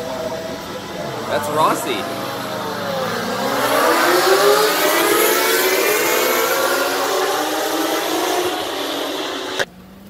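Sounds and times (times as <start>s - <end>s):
motorcycles accelerating past: 0.0s - 9.7s.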